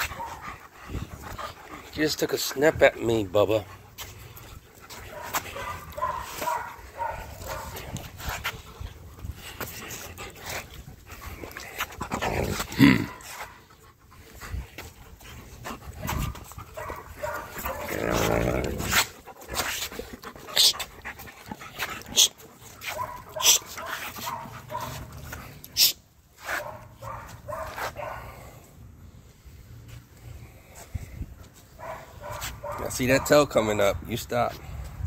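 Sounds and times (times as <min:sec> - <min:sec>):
dogs panting and vocalizing: 0:00.0 - 0:35.0.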